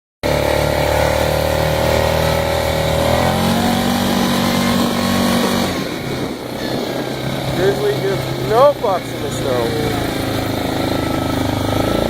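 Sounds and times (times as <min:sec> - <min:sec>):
atv engine running: 0:00.2 - 0:12.0.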